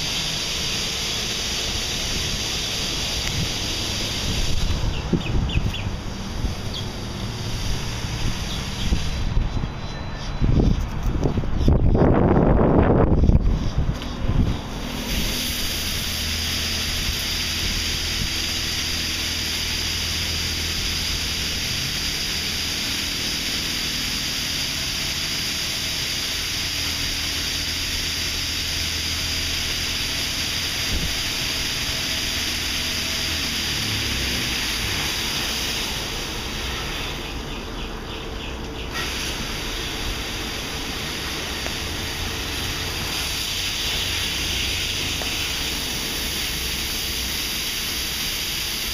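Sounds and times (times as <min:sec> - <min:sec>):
car wash water spray hissing: 0:00.0 - 0:09.6, 0:10.6 - 0:48.9.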